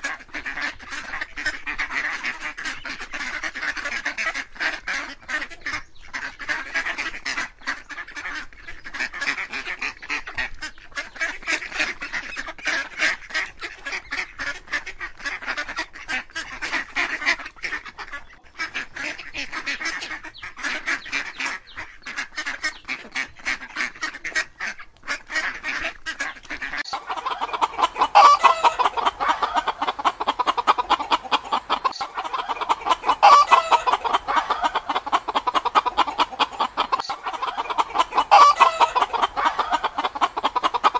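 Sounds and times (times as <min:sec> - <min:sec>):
ducks quacking: 0:00.0 - 0:40.9
hens clucking: 0:00.0 - 0:40.9.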